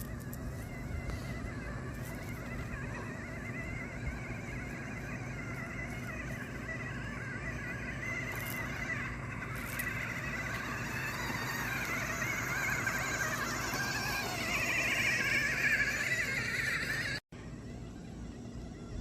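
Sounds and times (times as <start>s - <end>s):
electric gear motors whining: 0.0s - 19.0s.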